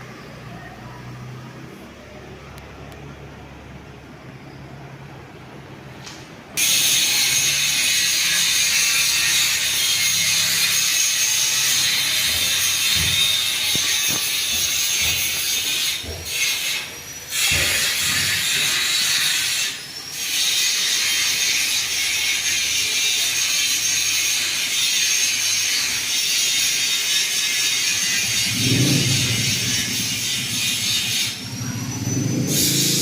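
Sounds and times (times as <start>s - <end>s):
ceiling fan hissing: 0.0s - 33.0s.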